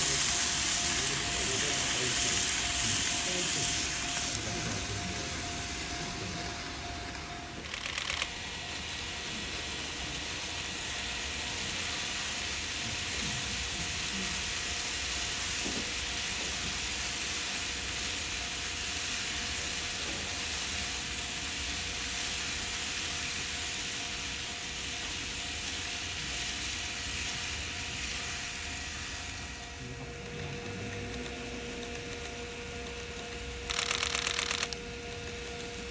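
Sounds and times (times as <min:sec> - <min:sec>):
faint motor tones: 0:00.0 - 0:35.9
model train wheels rattling on rail: 0:00.0 - 0:35.9.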